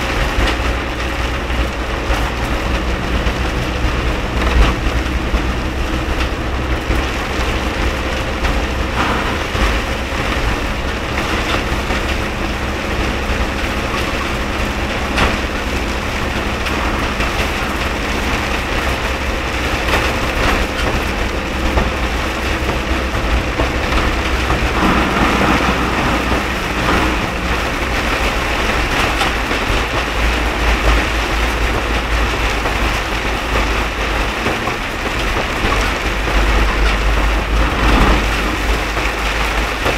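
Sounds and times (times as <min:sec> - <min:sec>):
heavy rain on a car: 0:00.0 - 0:39.9
low engine rumble: 0:00.0 - 0:39.9
tyres hissing on wet road: 0:00.0 - 0:39.9.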